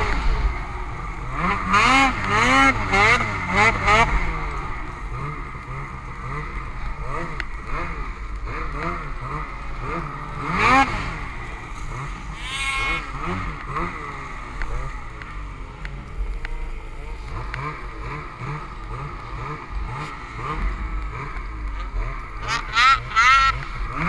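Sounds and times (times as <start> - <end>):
snowmobile engine revving: 0.0 - 24.0.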